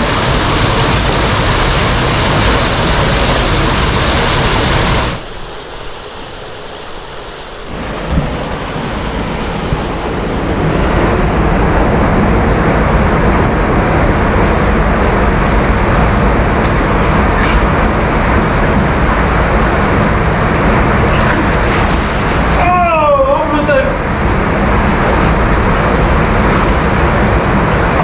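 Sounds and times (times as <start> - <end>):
water rushing through culvert: 0.0 - 28.0.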